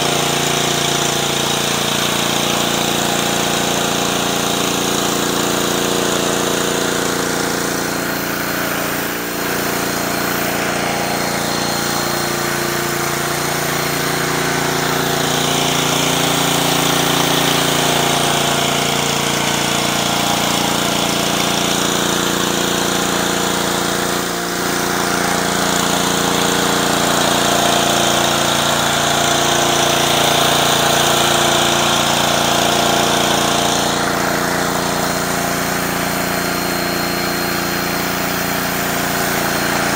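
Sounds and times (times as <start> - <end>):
high-pressure water hissing on concrete: 0.0 - 39.9
small engine running under load: 0.0 - 39.9.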